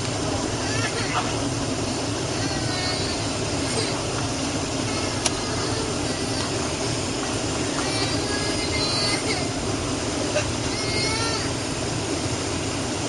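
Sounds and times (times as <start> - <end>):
airplane cabin roar: 0.0 - 13.0.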